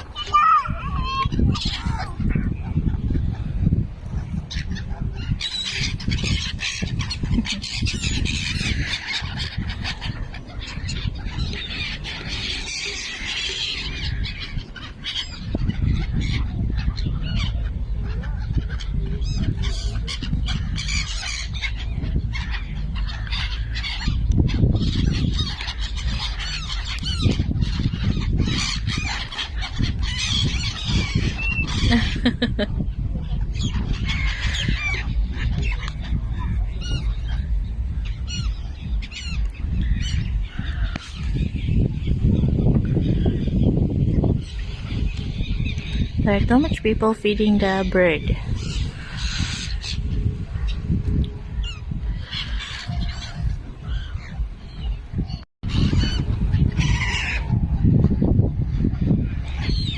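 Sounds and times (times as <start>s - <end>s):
birds calling and squawking: 0.0s - 59.9s
steady low rumble: 0.8s - 59.9s.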